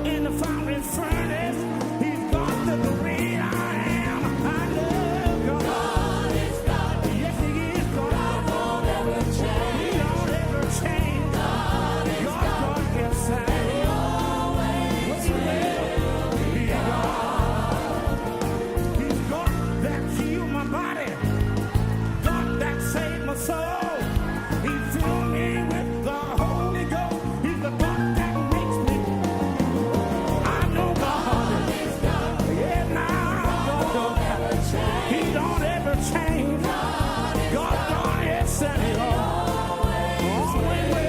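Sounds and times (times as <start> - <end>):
voices singing together: 0.0 - 41.0
worship band playing: 0.0 - 41.0.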